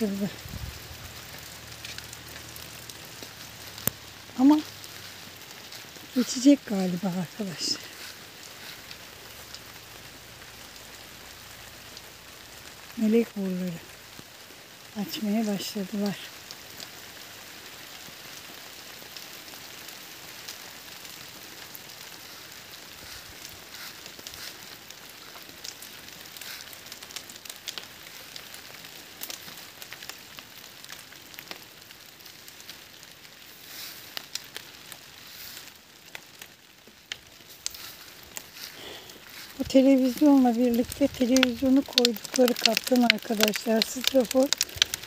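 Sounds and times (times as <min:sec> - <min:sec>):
rain falling: 0:00.0 - 0:45.0
raindrop ticks: 0:00.0 - 0:45.0.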